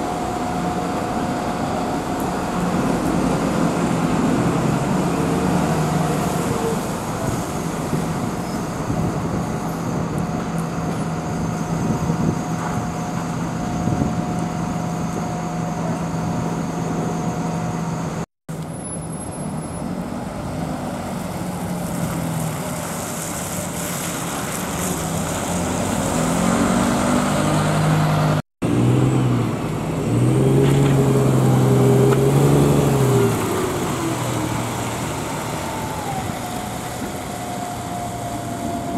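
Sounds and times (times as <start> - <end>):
traffic noise: 0.0 - 38.9.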